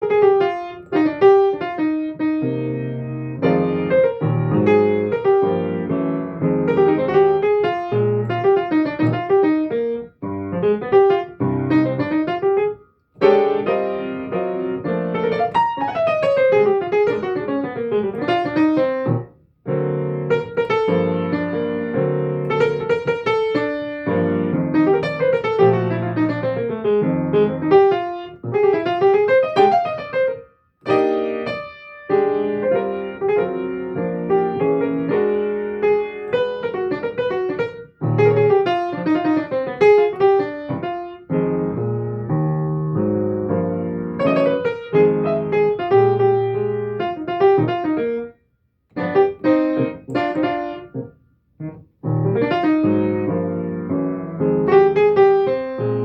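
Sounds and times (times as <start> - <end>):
solo piano playing: 0.0 - 56.0.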